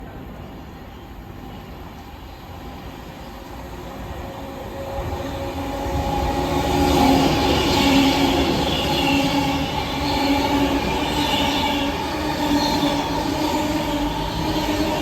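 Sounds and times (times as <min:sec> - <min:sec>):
train rumbling on track: 0:00.0 - 0:15.0
train whining tones: 0:01.1 - 0:15.0.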